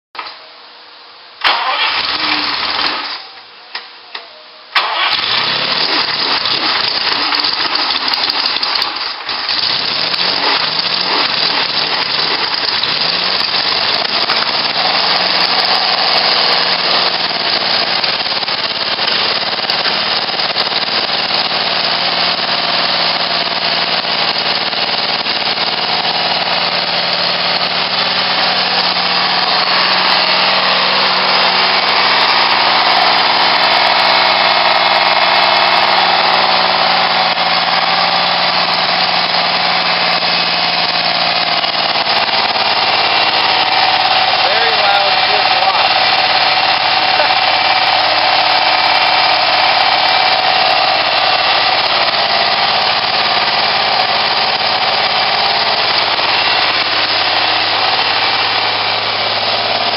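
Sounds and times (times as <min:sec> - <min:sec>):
car engine starting and revving: 0:01.4 - 0:03.3, 0:04.8 - 0:59.9.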